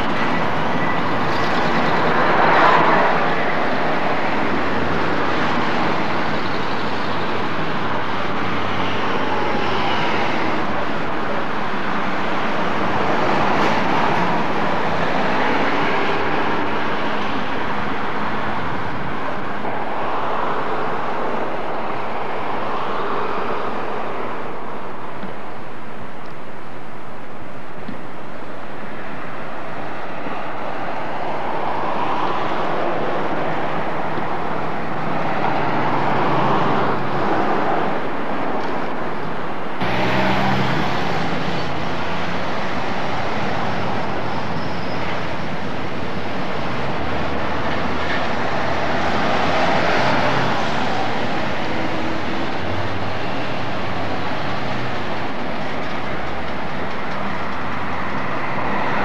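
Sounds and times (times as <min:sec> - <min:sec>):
cars driving past: 0:00.0 - 0:25.0, 0:28.8 - 0:59.0.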